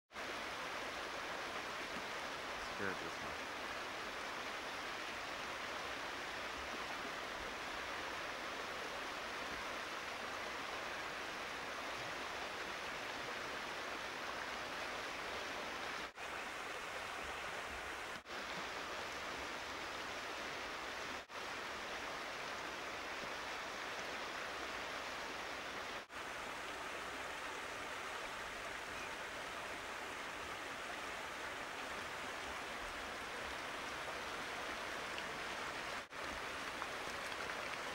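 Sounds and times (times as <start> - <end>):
creek rushing: 0.1 - 37.9.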